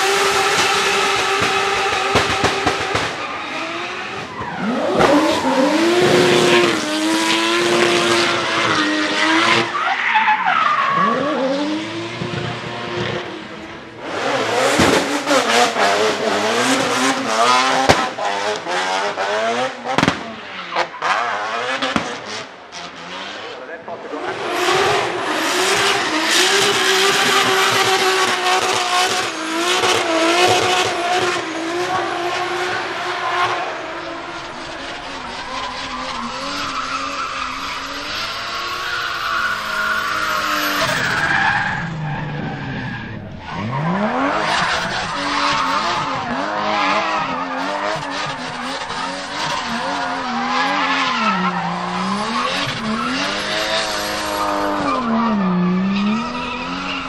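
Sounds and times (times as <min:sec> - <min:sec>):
car engine revving high: 0:00.0 - 0:09.8, 0:10.9 - 0:42.5, 0:43.3 - 0:57.0.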